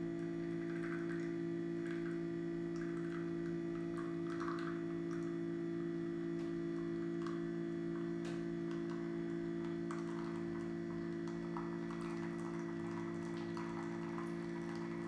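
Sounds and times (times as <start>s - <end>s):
milk frother motor humming: 0.0s - 15.0s.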